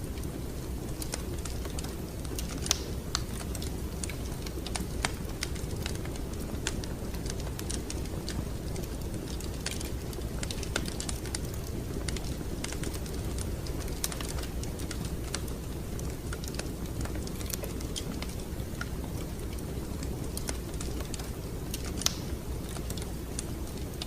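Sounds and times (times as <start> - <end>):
fire low rumble: 0.0 - 24.0
wood fire crackling: 0.0 - 24.0.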